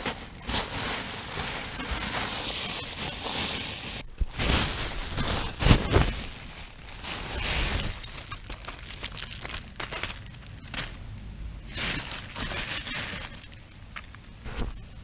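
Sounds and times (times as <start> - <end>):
plastic bag rustling: 0.0 - 11.0, 11.6 - 14.2.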